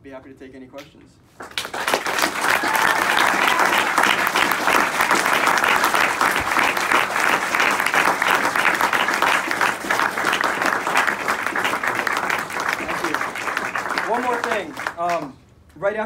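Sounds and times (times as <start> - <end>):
audience applauding: 1.4 - 15.3.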